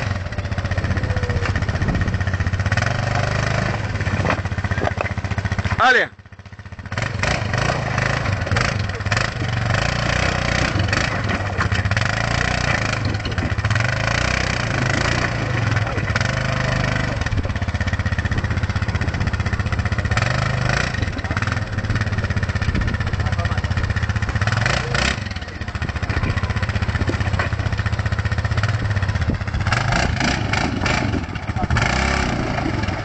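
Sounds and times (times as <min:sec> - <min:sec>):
quad bike engine revving: 0:00.0 - 0:33.0.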